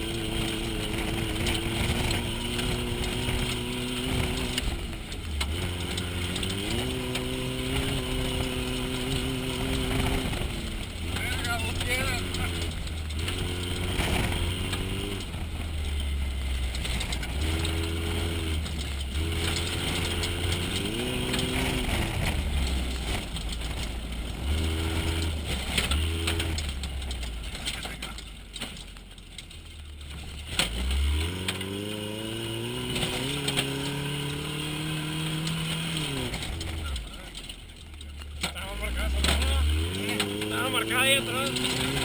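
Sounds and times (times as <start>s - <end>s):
truck engine revving: 0.0s - 29.0s, 29.7s - 42.0s
knocks and rattles: 0.0s - 42.0s.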